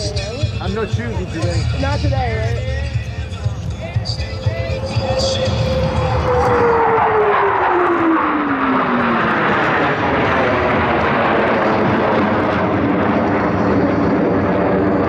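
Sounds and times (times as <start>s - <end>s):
jet passing by: 0.0s - 15.0s.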